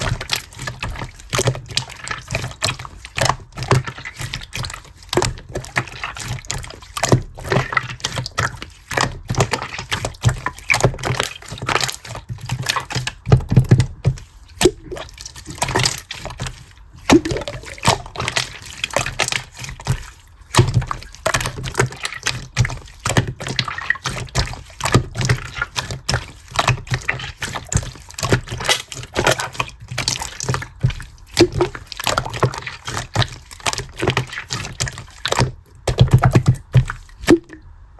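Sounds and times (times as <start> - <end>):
wet sticky crackling: 0.0 - 37.3.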